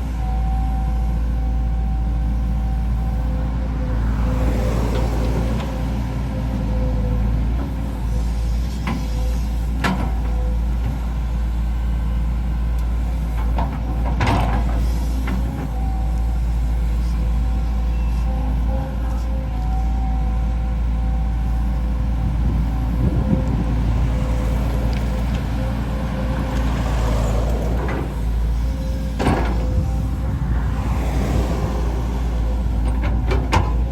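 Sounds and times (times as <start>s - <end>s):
excavator engine under load: 0.0s - 33.9s.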